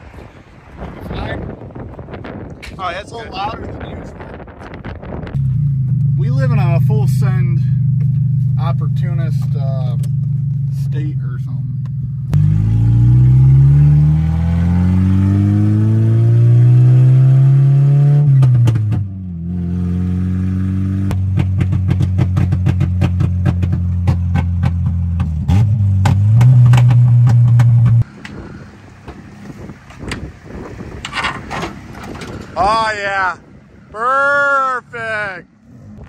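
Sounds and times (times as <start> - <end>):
car engine accelerating: 4.4 - 32.8, 35.4 - 36.0.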